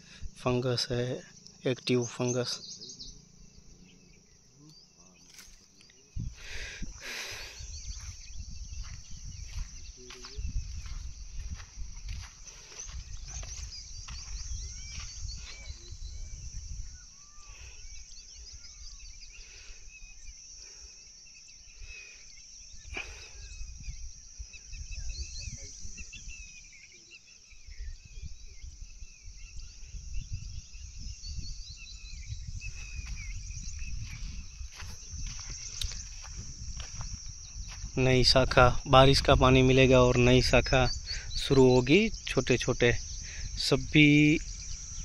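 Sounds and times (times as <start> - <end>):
high insect chorus: 0.0 - 45.0
small bird chirps: 0.4 - 45.0.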